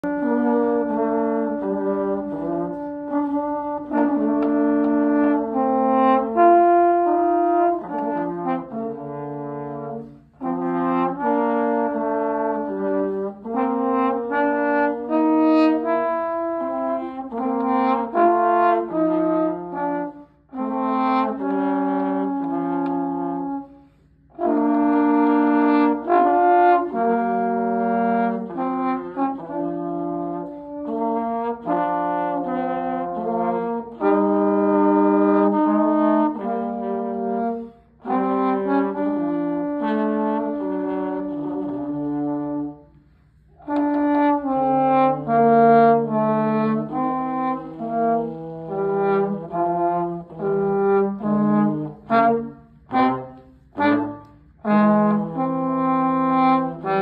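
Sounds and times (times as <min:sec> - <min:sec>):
two trombones playing duet: 0:00.0 - 0:57.0.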